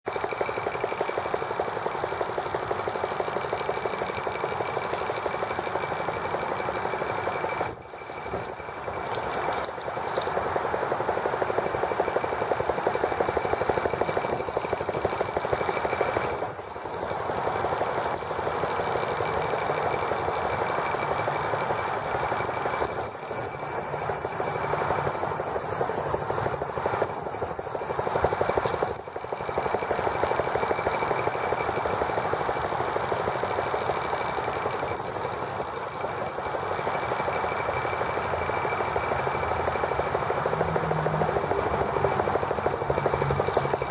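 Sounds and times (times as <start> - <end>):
small gasoline engine running: 0.0 - 43.9.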